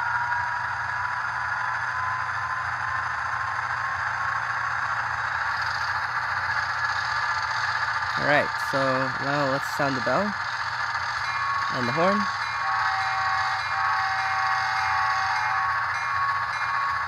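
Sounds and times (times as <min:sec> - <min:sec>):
diesel engine drone from small speaker: 0:00.0 - 0:17.0.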